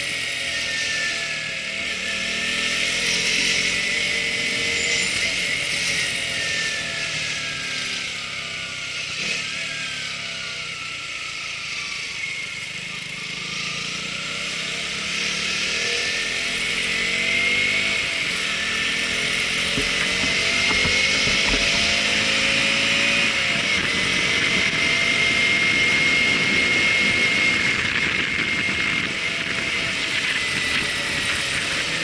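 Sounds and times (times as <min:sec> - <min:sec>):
engine-like drone: 0:00.0 - 0:32.0
steady whine: 0:00.0 - 0:32.0.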